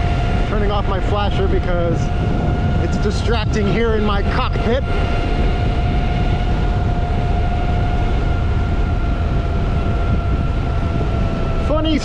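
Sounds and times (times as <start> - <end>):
electric motor high whine: 0.0 - 12.0
wind rumbling on microphone: 0.0 - 12.0.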